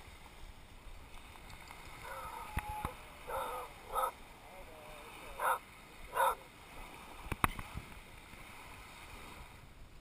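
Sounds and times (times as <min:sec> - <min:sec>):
small waves lapping on shore: 0:00.0 - 0:10.0.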